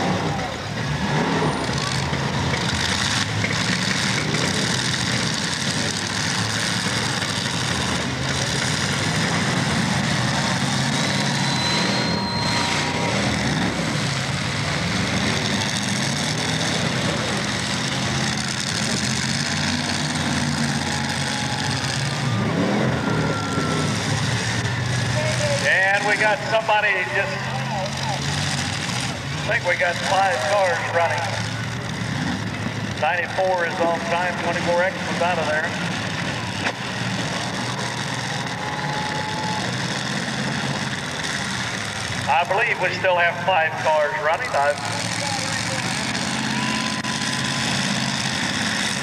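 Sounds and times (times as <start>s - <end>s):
car engines revving: 0.0s - 49.0s
steady dense noise: 2.8s - 38.2s, 40.4s - 49.0s.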